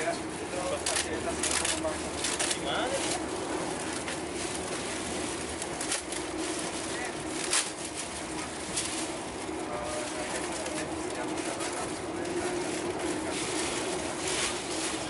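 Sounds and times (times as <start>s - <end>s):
train rumble and hiss: 0.0s - 15.0s
plastic bags rustling: 0.8s - 15.0s.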